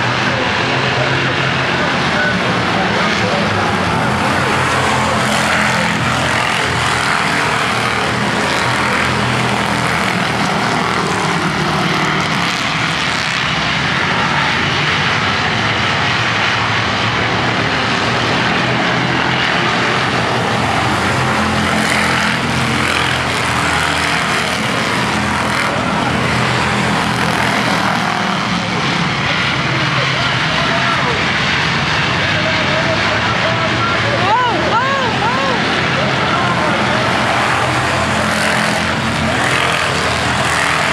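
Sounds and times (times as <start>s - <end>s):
race car engines droning: 0.0s - 40.9s.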